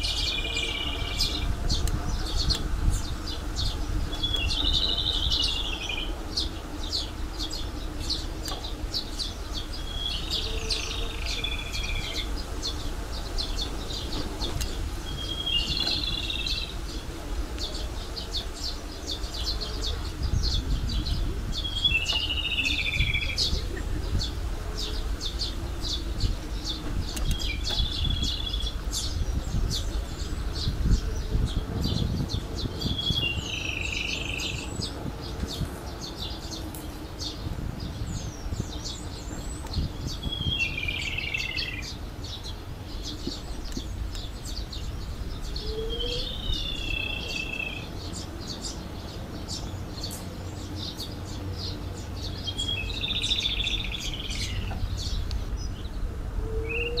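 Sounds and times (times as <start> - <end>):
songbird singing high phrase: 0.0 - 35.0, 37.3 - 57.0
steady low rumble: 0.0 - 57.0.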